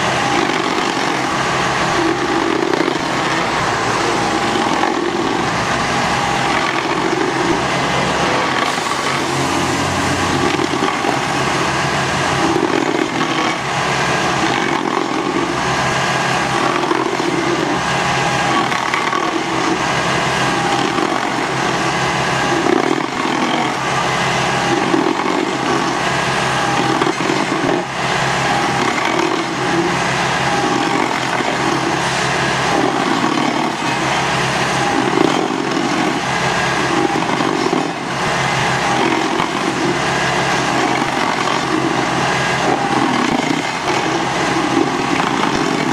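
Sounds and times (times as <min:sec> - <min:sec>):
stump grinder grinding: 0:00.0 - 0:45.9
tractor engine drone: 0:00.0 - 0:45.9.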